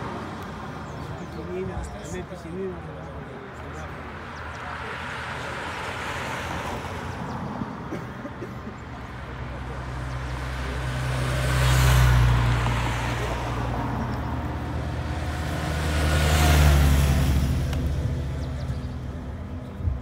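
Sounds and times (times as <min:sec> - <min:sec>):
vehicles driving past: 0:00.0 - 0:20.0.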